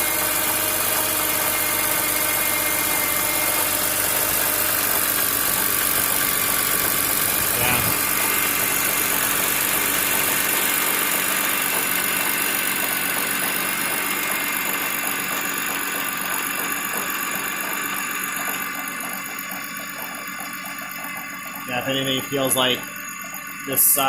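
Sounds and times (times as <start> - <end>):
car engine idling with rattle: 0.0 - 24.0.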